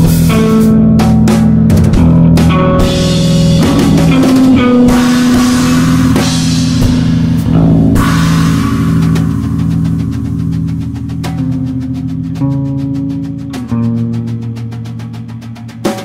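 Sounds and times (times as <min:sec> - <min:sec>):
drum kit beat: 0:00.0 - 0:16.0
electric guitar: 0:00.0 - 0:16.0.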